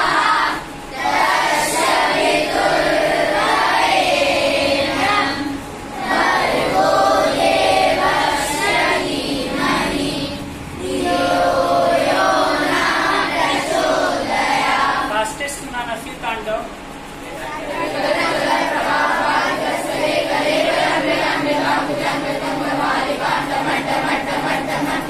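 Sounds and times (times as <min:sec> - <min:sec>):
children singing in unison: 0:00.0 - 0:15.2, 0:17.6 - 0:25.0.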